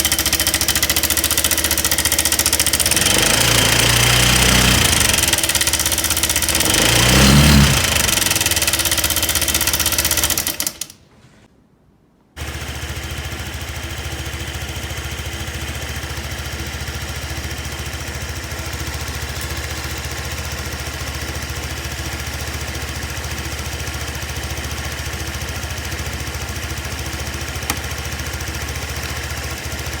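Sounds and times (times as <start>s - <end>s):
scooter engine running: 0.0s - 10.9s, 12.4s - 30.0s.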